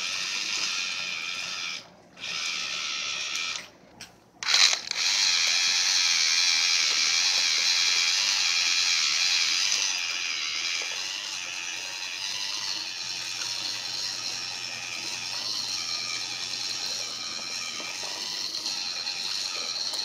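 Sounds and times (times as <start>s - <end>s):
small motor whirring rattle: 0.0s - 3.7s, 4.4s - 20.0s.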